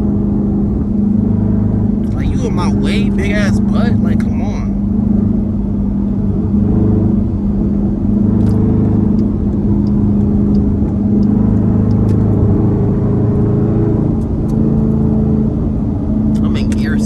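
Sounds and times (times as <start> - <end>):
loud car exhaust drone: 0.0 - 17.0.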